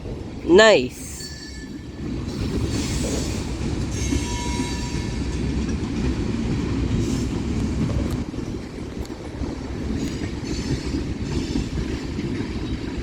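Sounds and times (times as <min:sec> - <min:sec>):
freight train wheels rumbling: 0:01.0 - 0:13.0.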